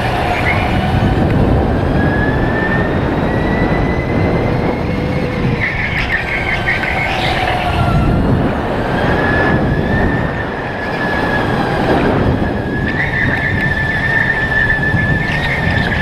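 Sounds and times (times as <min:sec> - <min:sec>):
electric motor whine: 0:00.0 - 0:16.0
low rumble: 0:00.0 - 0:16.0.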